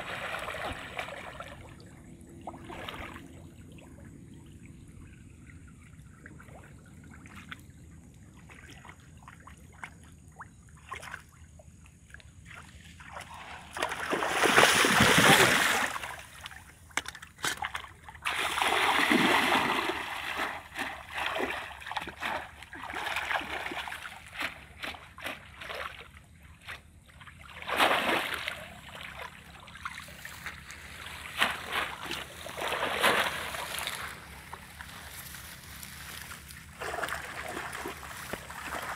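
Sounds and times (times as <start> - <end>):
splashing in shallow water: 0.0 - 38.9.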